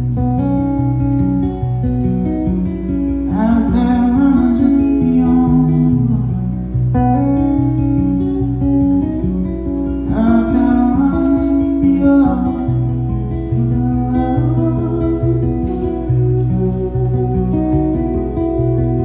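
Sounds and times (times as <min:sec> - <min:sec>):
acoustic guitar folk instrumental: 0:00.0 - 0:19.0.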